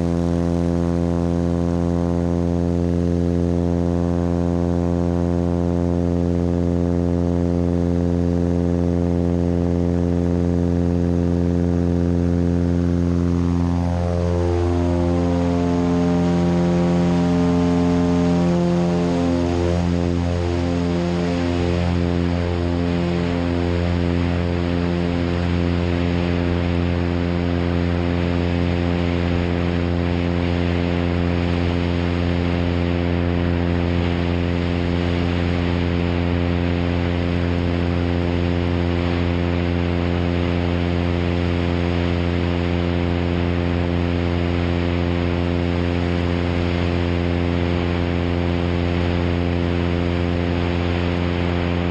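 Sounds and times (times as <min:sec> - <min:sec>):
propeller plane engine drone: 0:00.0 - 0:51.9.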